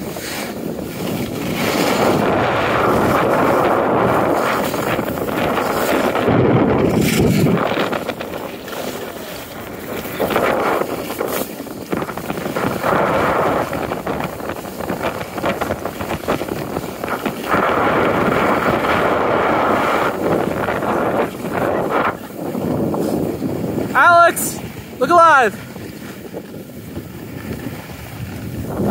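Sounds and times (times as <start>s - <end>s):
skis scraping over snow: 0.0s - 28.9s
wind buffeting microphone: 0.0s - 28.9s.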